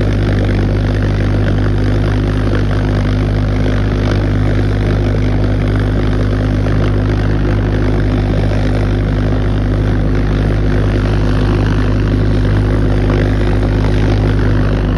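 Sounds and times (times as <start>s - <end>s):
pulse jet engine drone: 0.0s - 14.9s.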